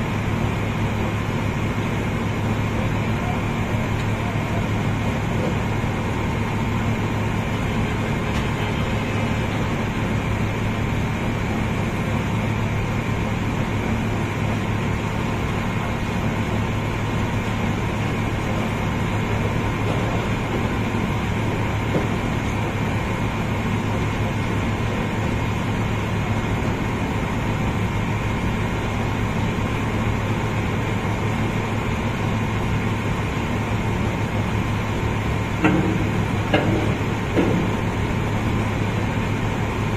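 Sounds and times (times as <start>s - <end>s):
low machinery hum: 0.0s - 39.9s.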